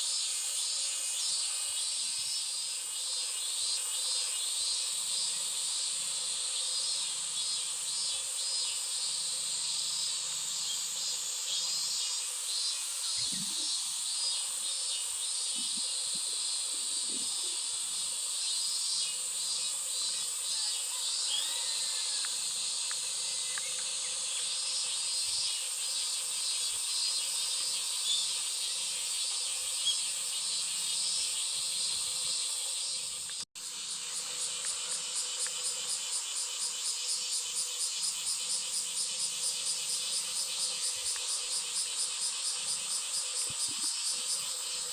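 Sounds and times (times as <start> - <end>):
insects buzzing: 0.0 - 44.9.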